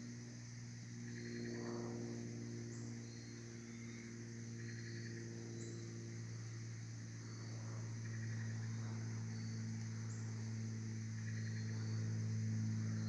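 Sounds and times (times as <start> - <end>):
insect pulsed trills: 0.0 - 13.0
insects buzzing: 0.0 - 13.0
low hum: 0.0 - 13.0.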